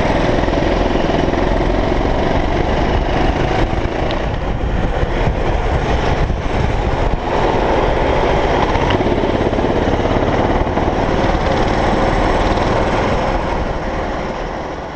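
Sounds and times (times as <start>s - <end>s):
go-kart engine running: 0.0s - 14.9s
other kart engines: 0.0s - 14.9s.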